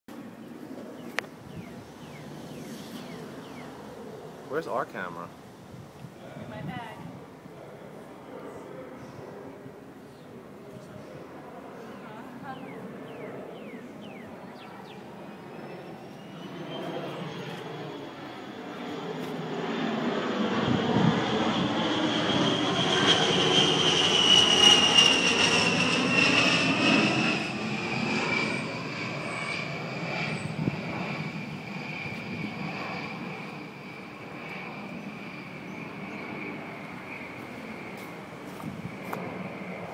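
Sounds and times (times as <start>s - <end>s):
jet engine whine: 0.1s - 39.9s
jet flying past overhead: 0.1s - 39.9s.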